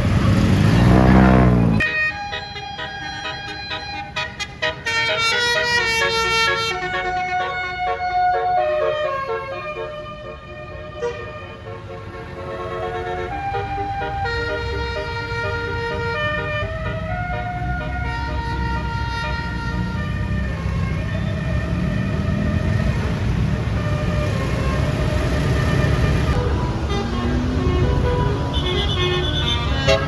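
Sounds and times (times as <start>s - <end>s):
low rumble of bus engine: 0.0s - 30.0s
road noise: 0.0s - 30.0s
multi-tone air horn melody: 0.6s - 22.0s, 25.8s - 30.0s.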